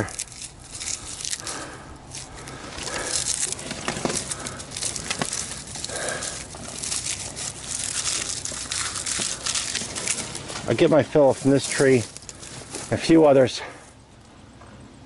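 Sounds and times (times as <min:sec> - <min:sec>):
bark tearing from trunk: 0:00.0 - 0:13.0
small crackles and snaps: 0:00.0 - 0:13.0.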